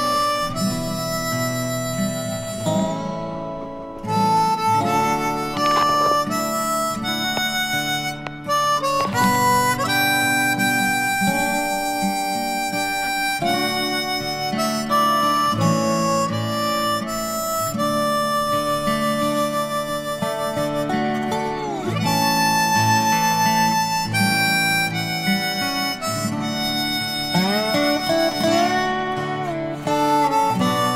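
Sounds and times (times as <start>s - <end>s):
guitar: 0.0s - 30.9s
harmonica long held notes: 0.0s - 30.9s.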